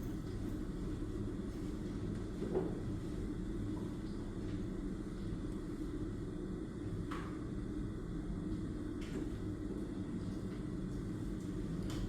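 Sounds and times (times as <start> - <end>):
low background rumble and hum: 0.0 - 12.0.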